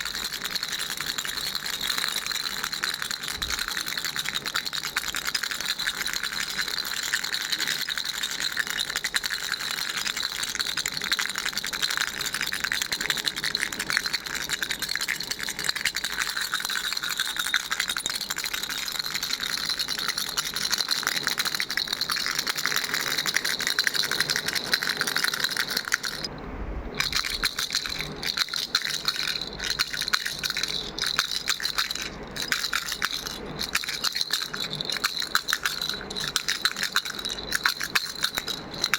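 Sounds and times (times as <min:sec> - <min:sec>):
baby rattle shaken: 0:00.0 - 0:26.3, 0:27.0 - 0:38.9.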